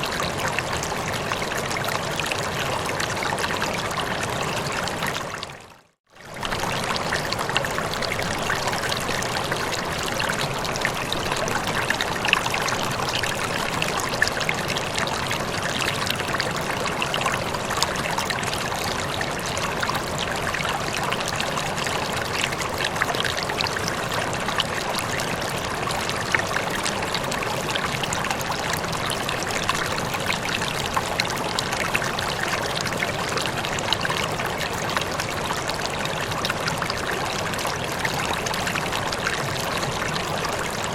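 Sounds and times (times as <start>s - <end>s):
running water flowing: 0.0s - 40.9s.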